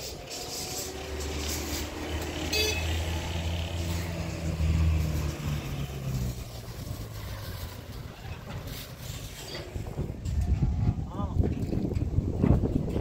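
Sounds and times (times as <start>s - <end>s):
vehicle engine humming: 0.0s - 11.1s.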